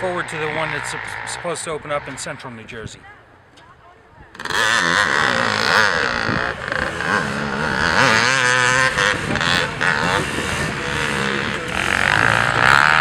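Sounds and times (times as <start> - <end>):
quad bike engine revving: 0.0 - 2.5, 4.3 - 13.0.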